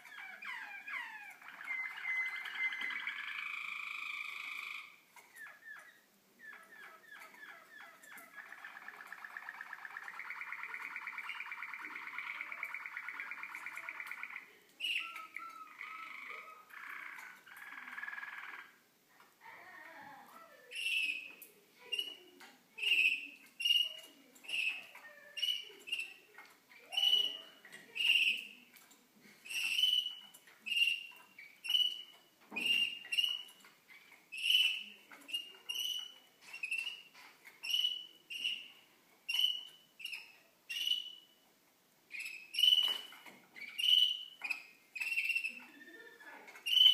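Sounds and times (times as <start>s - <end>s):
soft bird twittering: 0.0s - 18.8s, 20.7s - 28.8s, 29.4s - 41.4s, 42.1s - 46.9s
canaries calling: 0.0s - 18.9s, 19.5s - 46.9s.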